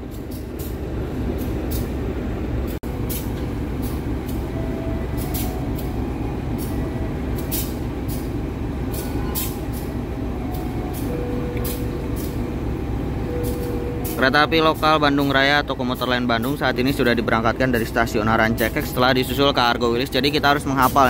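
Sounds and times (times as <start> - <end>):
diesel trains rumbling: 0.0 - 21.0.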